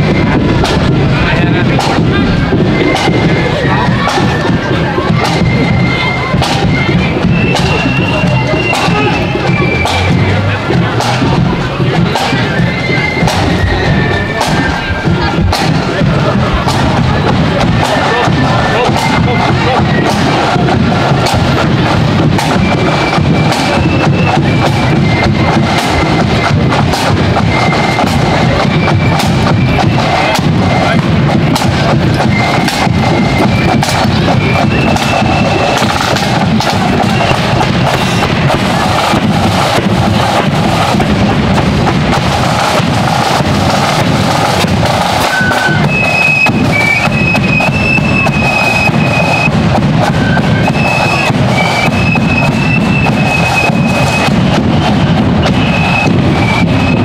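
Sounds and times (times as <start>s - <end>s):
flutes playing a tune: 0.0s - 41.2s, 42.6s - 57.0s
bass drum beat: 0.0s - 57.0s
snare drum rolls: 0.0s - 57.0s.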